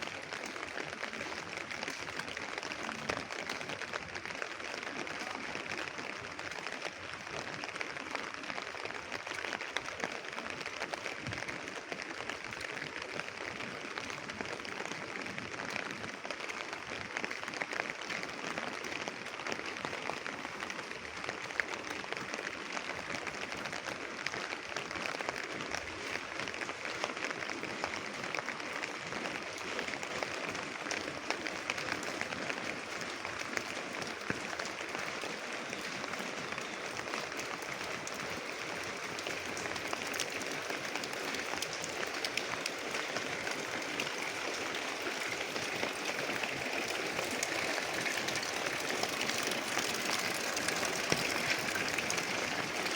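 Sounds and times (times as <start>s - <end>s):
light rain pattering: 0.0s - 52.9s.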